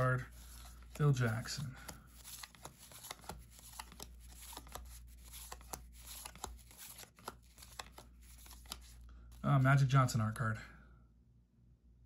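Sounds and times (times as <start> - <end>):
cards ticking and sliding: 0.0 - 9.9.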